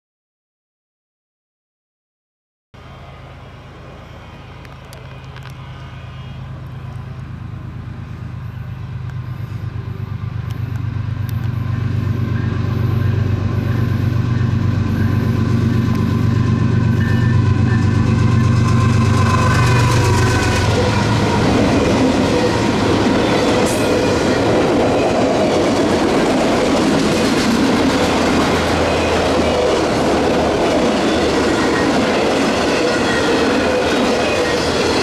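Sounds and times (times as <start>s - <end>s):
diesel locomotive engine drone: 2.8s - 35.0s.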